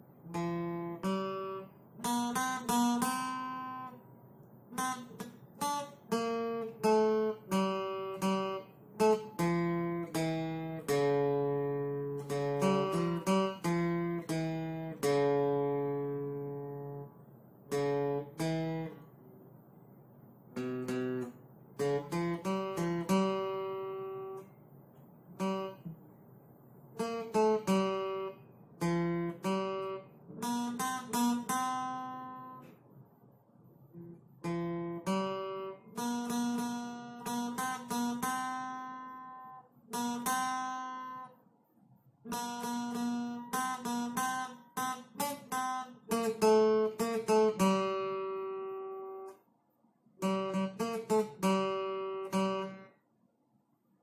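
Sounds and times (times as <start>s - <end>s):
acoustic guitar slow melody: 0.0s - 49.5s, 50.1s - 53.0s.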